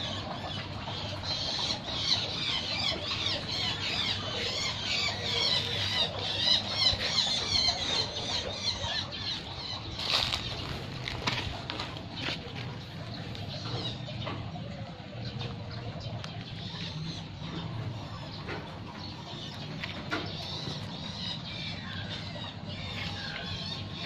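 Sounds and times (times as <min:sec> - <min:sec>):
birds chirping: 0:00.0 - 0:24.0
low background hum: 0:00.0 - 0:24.0.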